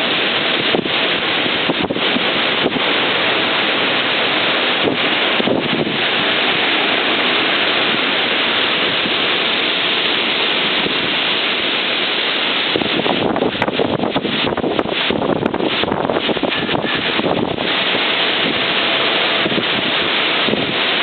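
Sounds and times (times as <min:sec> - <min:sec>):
strong wind gusts on microphone: 0:00.0 - 0:21.0.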